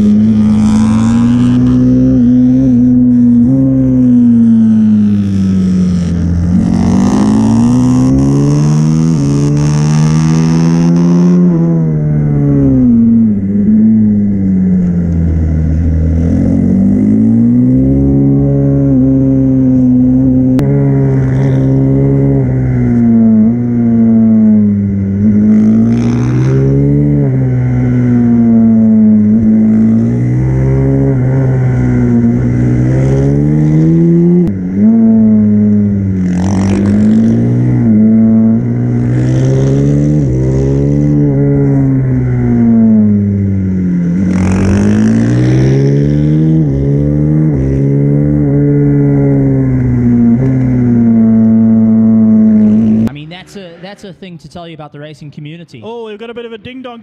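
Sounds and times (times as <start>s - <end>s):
motorcycle engine revving: 0.0s - 54.1s.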